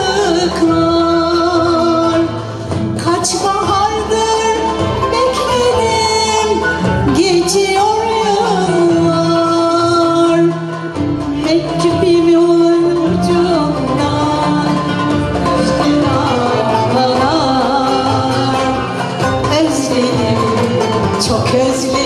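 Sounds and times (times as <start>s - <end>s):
cello: 0.0s - 22.0s
violin: 0.0s - 22.0s
woman singing with vibrato: 0.0s - 22.0s.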